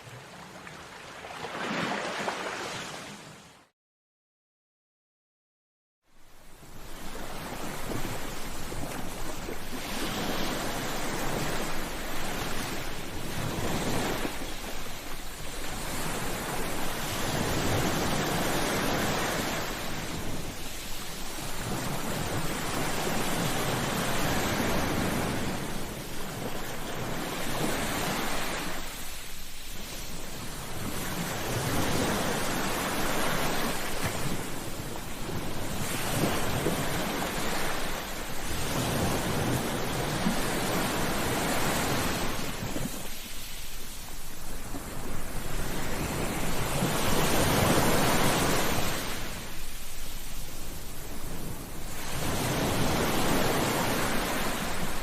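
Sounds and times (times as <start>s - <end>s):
sea waves breaking on beach: 0.0s - 3.7s, 6.6s - 55.0s.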